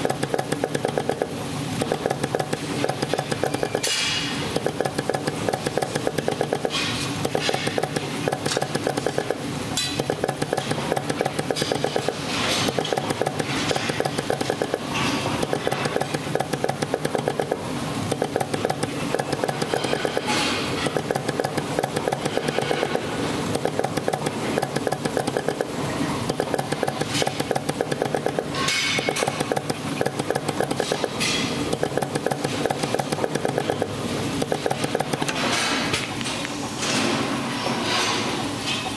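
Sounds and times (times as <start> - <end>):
machine humming and clicking: 0.0 - 38.9.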